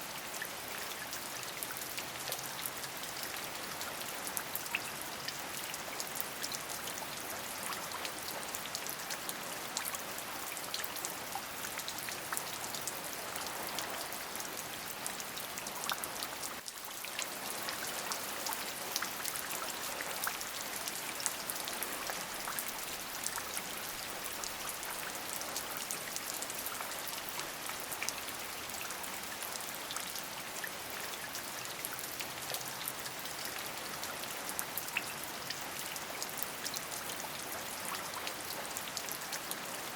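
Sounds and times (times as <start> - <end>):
raindrops ticking on a surface: 0.0 - 39.9
steady rain hissing: 0.0 - 39.9.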